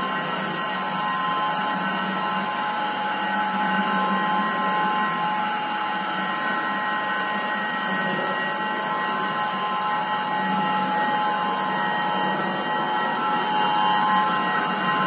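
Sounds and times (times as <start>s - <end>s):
mixer motor humming and whining: 0.0s - 15.0s.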